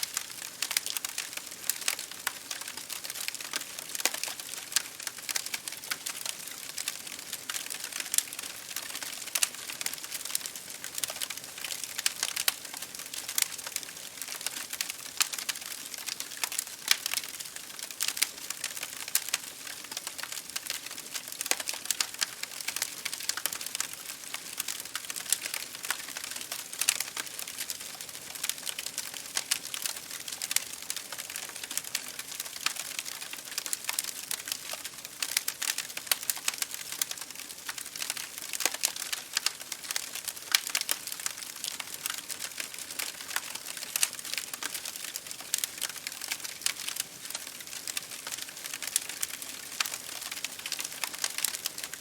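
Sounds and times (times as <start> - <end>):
rain against a window: 0.0 - 52.0
wood fire crackling: 0.0 - 52.0.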